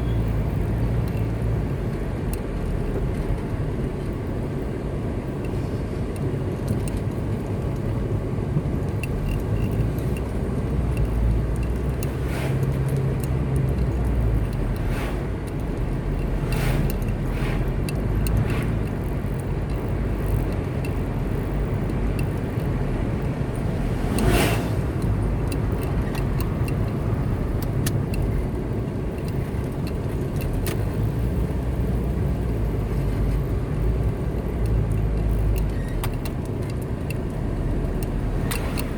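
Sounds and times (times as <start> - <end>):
car engine and tyre rumble: 0.0 - 38.9
light ticks and rattles: 0.2 - 38.9.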